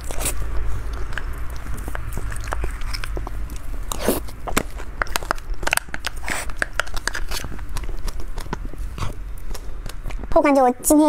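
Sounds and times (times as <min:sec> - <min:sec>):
biting and chewing: 0:00.0 - 0:10.4.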